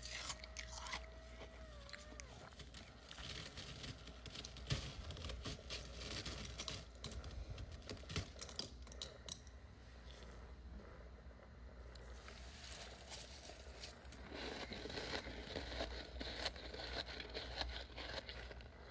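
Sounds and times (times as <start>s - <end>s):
frost crunching: 0.0s - 8.8s, 12.1s - 18.7s.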